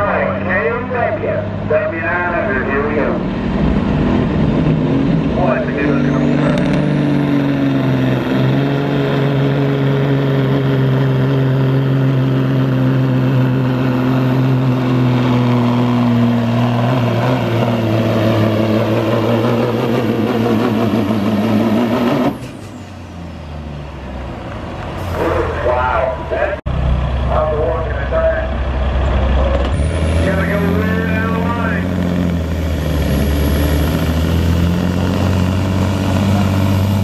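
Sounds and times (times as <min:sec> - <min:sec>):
diesel truck engine under load: 0:00.0 - 0:37.0.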